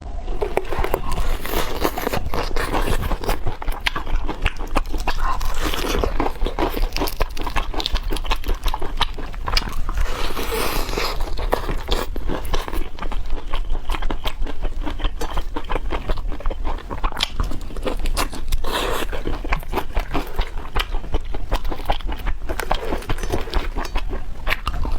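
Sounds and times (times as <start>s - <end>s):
chicken crunching while chewed: 0.3s - 24.9s.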